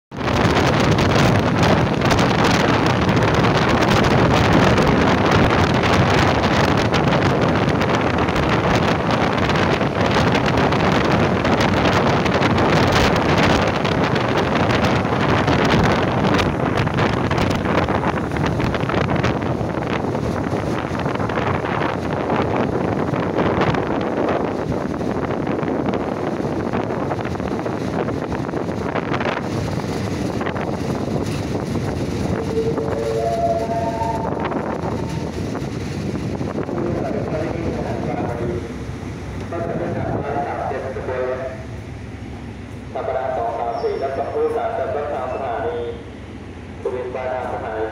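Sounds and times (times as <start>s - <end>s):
wind buffeting microphone: 0.1s - 43.4s
train running on track: 0.1s - 47.9s.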